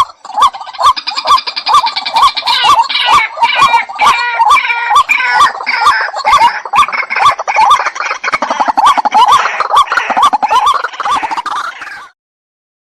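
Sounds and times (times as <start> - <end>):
bird calling harsh notes: 0.0 - 12.2.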